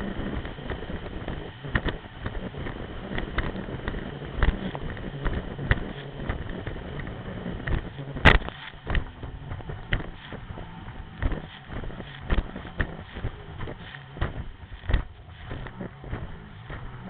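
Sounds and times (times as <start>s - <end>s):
watercraft engine running: 0.0s - 17.0s
hull slapping and splashing water: 0.2s - 17.0s.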